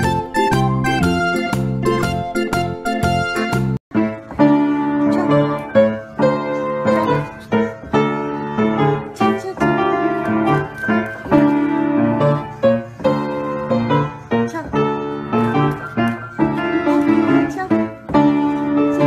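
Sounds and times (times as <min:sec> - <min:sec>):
piano playing: 0:00.0 - 0:19.0.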